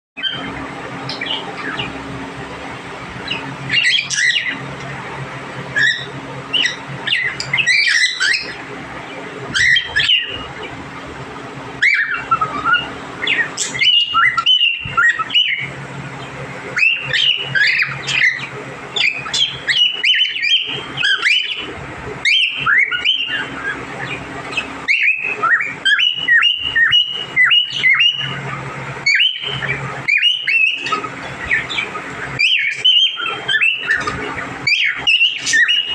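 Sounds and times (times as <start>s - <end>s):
parrots chirping and squawking: 0.2s - 2.4s, 3.2s - 10.8s, 11.8s - 35.9s
steady low hum: 0.2s - 35.9s.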